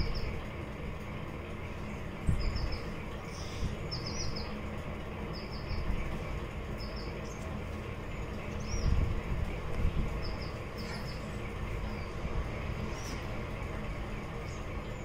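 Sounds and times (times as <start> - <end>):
small bird chirping: 0.0 - 0.4, 1.7 - 13.3
steady low rumble: 0.0 - 15.0.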